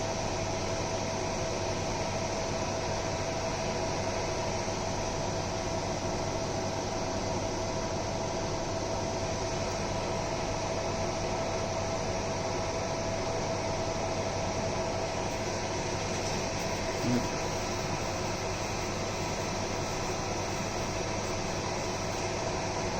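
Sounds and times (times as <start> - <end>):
constant machine tone: 0.0 - 22.9
laser engraver fan hum and hiss: 0.0 - 22.9.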